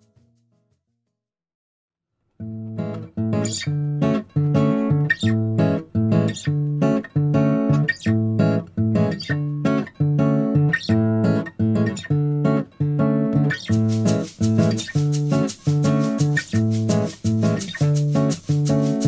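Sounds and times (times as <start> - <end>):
acoustic guitar strumming chords: 2.6 - 19.0.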